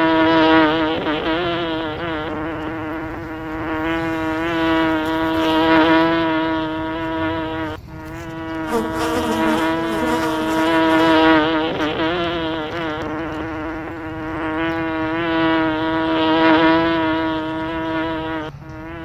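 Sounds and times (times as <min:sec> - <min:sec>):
bee buzzing: 0:00.0 - 0:19.0.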